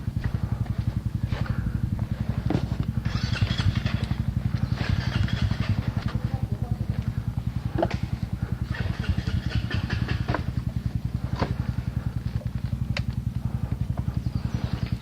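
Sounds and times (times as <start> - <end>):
pulsing engine-like drone: 0.0 - 15.0.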